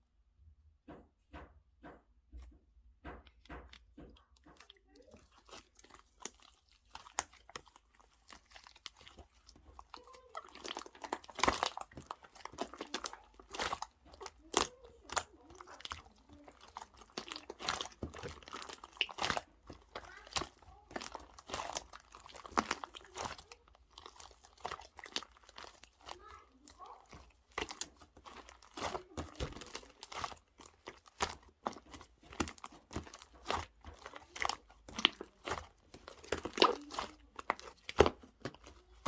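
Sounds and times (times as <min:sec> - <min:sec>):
slime squished by hand: 0:01.9 - 0:39.0.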